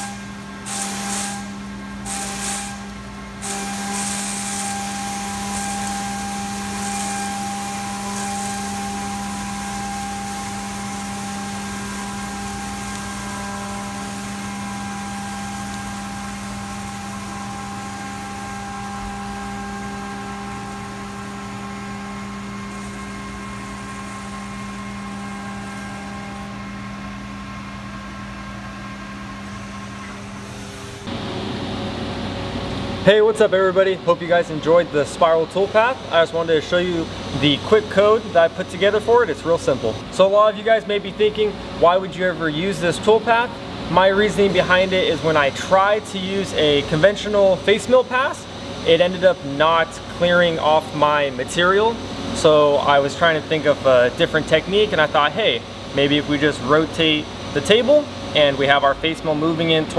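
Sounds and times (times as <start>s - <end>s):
mill spindle humming: 0.0s - 59.9s.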